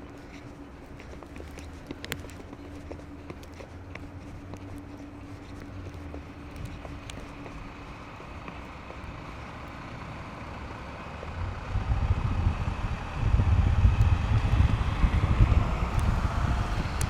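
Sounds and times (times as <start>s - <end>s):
street traffic: 0.0s - 17.0s
wind buffeting microphone: 0.0s - 17.0s.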